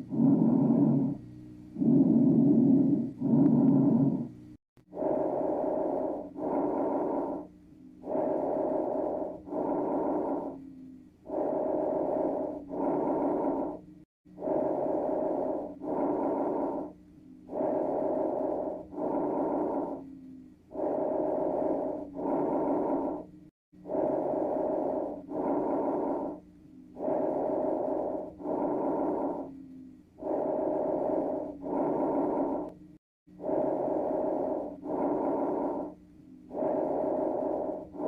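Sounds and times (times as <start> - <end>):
lung breath sounds: 0.0 - 38.0.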